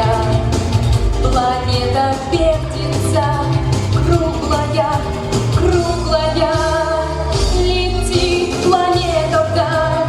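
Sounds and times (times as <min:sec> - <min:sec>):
pop song with singing voice: 0:00.0 - 0:10.0
steady bass: 0:00.0 - 0:10.0.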